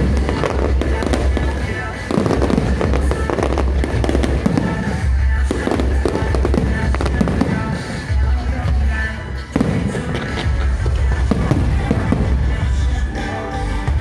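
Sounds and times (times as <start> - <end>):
loud music: 0.0 - 14.0.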